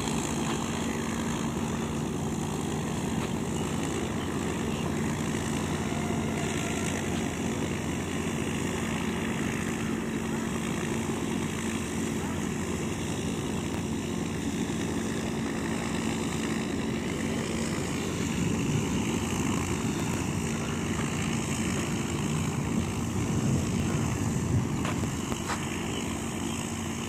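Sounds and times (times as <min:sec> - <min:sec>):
propeller aircraft engine droning: 0:00.0 - 0:27.0.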